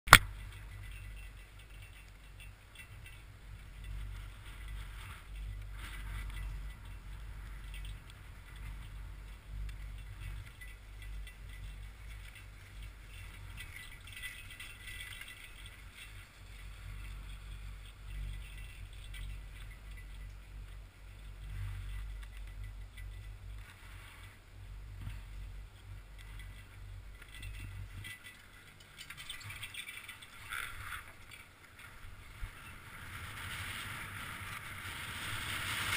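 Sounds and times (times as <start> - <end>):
chairlift low rumble: 0.1 - 35.9
chairlift rattling and clicking: 0.1 - 35.9.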